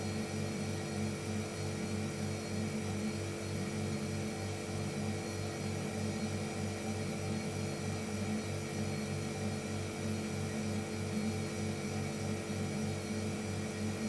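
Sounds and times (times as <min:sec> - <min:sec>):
refrigerator compressor humming: 0:00.0 - 0:14.0.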